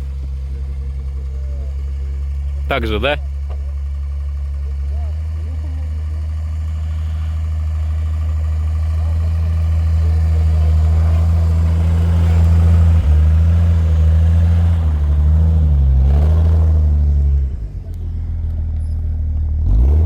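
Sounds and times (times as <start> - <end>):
suv engine running under load: 0.0 - 20.0.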